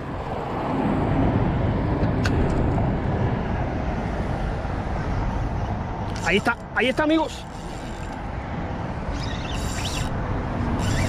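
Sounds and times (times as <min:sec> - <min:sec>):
traffic rumble on bridge: 0:00.0 - 0:11.0.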